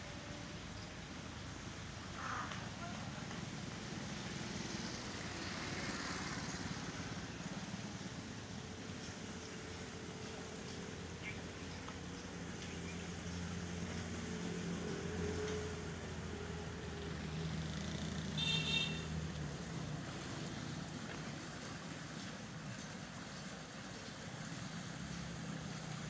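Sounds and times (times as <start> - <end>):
engine humming: 0.0 - 23.2.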